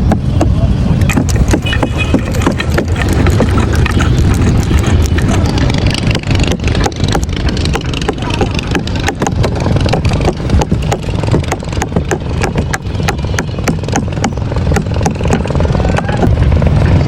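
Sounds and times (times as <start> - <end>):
hand tool tapping on boat: 0.0 - 16.4
steady low rumble: 0.0 - 17.0.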